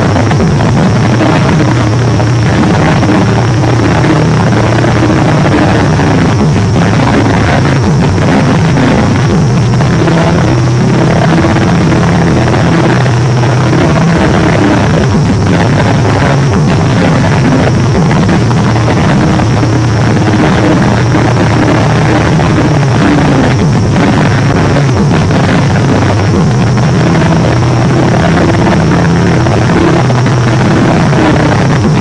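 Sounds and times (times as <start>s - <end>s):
loud harsh rumbling: 0.0s - 32.0s.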